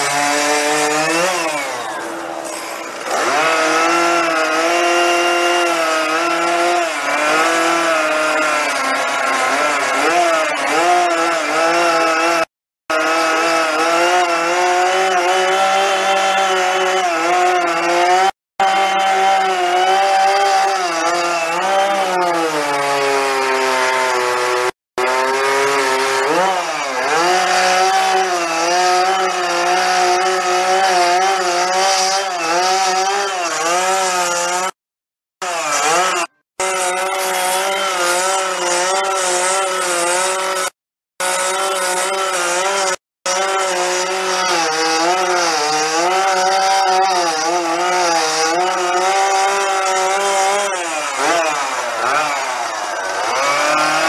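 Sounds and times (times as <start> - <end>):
chainsaw carving wood: 0.0 - 34.8, 35.4 - 54.0.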